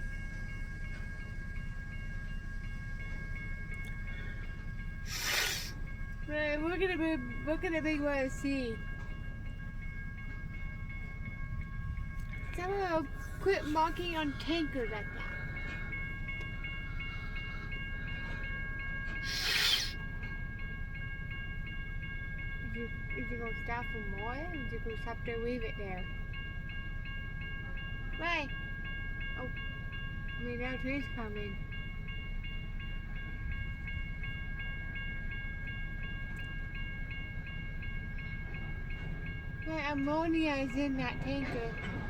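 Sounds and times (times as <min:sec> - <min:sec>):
freight train rumbling: 0:00.0 - 0:42.0
railroad crossing bell: 0:00.0 - 0:42.0.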